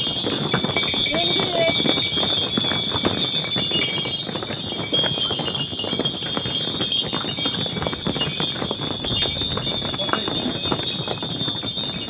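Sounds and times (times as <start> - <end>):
harness bells jingling: 0.0 - 12.0
hooves clopping on stone steps: 0.0 - 12.0.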